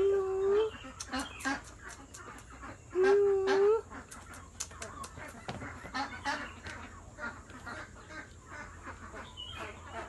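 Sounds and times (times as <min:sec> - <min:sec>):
poultry clucking: 0:00.0 - 0:10.0.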